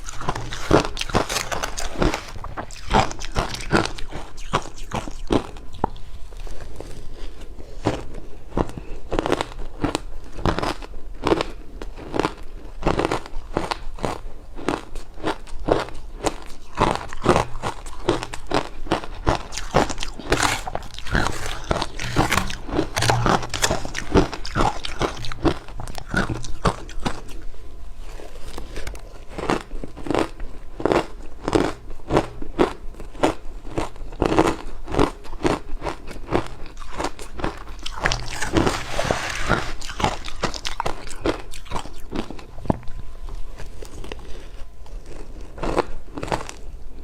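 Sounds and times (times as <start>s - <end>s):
person crunching ice: 0.0s - 5.5s, 8.6s - 27.4s, 28.4s - 42.4s.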